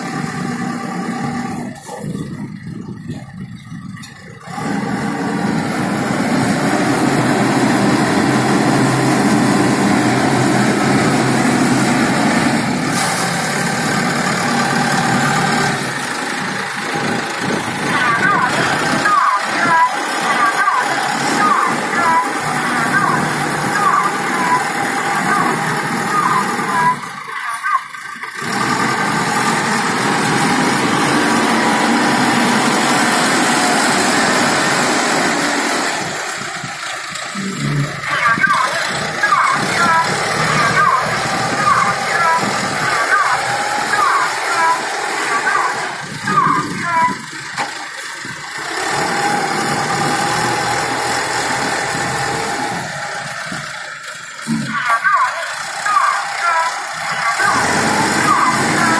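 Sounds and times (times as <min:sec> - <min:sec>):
concrete mixer engine running: 0:00.0 - 0:58.9.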